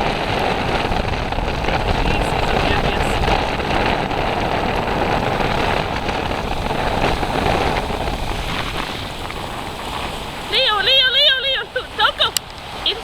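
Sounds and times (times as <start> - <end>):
ocean surf rushing: 0.0 - 13.0
wind rumbling on microphone: 0.0 - 13.0.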